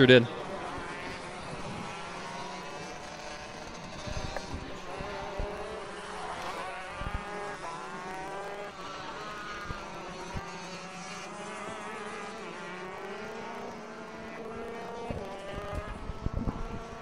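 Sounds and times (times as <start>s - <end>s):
two-stroke kart engines racing: 0.0s - 17.0s.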